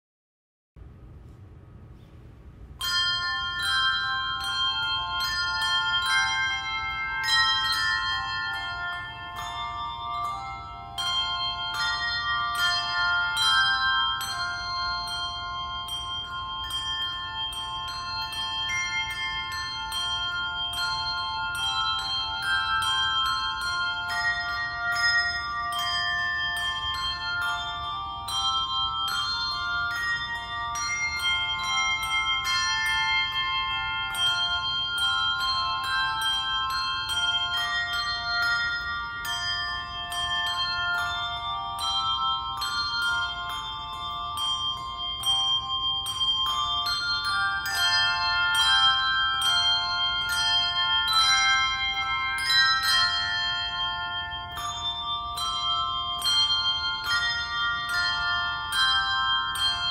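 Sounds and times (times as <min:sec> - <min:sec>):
handbell choir playing: 0:02.8 - 0:59.9.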